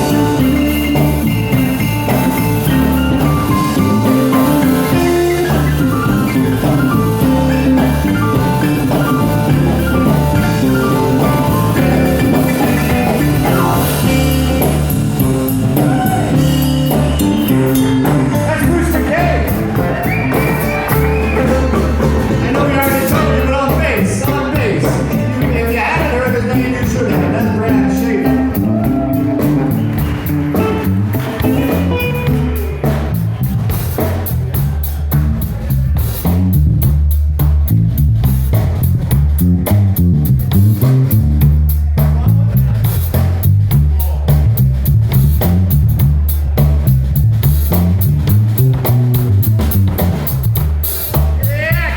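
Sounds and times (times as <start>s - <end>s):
bass line: 0.0s - 51.9s
blues band playing: 0.0s - 51.9s
drum kit cymbal beat: 0.0s - 51.9s.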